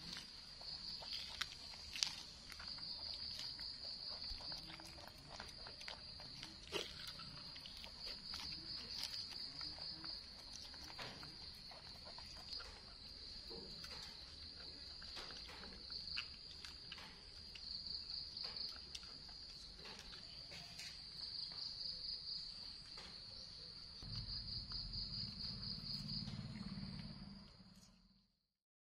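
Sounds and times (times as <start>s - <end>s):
insect trilling: 0.0s - 27.8s
monkeys gnawing corn: 0.0s - 28.1s.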